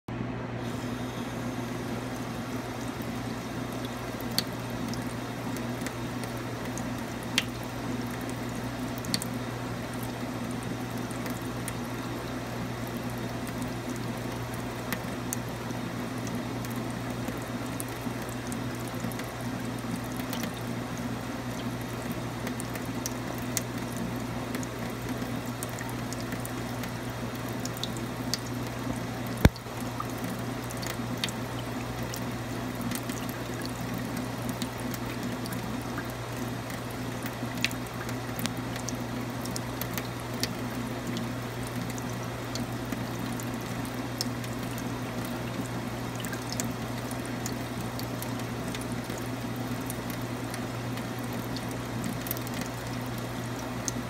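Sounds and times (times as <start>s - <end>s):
water trickling down a drain: 0.7s - 54.0s.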